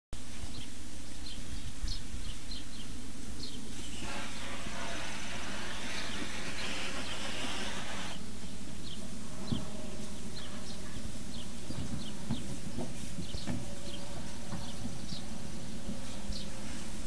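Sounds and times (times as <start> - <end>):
steady hiss: 0.2 - 10.4, 11.0 - 17.0
low steady hum: 0.2 - 17.0
small birds chirping: 0.4 - 15.4, 16.0 - 16.9.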